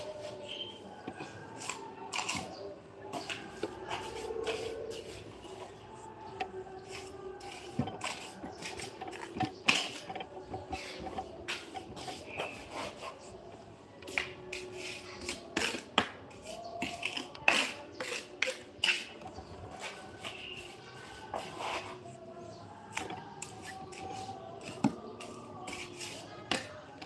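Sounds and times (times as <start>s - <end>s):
tools tapping and scraping: 0.0s - 27.0s.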